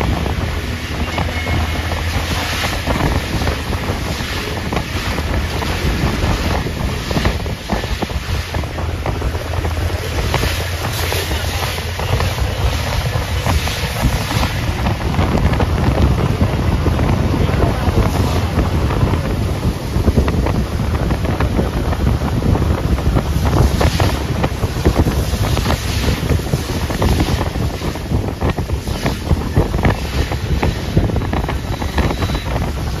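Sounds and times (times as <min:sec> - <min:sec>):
low rumble of car ride: 0:00.0 - 0:33.0
wind buffeting microphone: 0:00.0 - 0:33.0.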